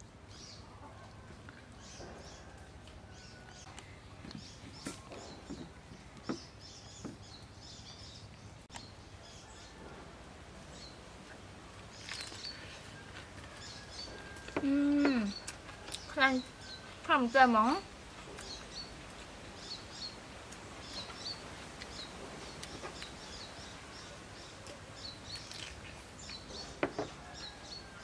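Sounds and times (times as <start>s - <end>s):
faint birdsong: 0.0s - 28.0s
low steady hiss: 0.0s - 28.0s.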